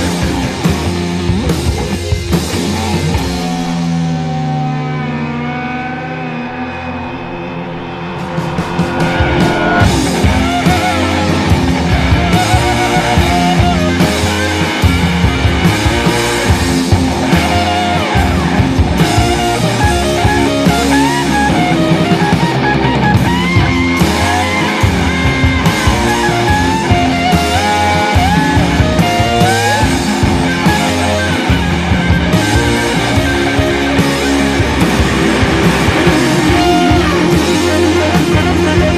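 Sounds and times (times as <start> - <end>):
rock music with electric guitar: 0.0 - 38.9.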